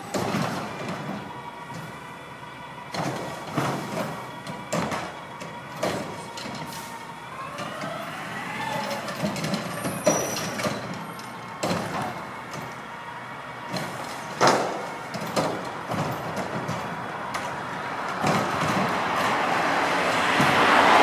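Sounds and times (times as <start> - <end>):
garbage truck engine revving: 0.0 - 21.0.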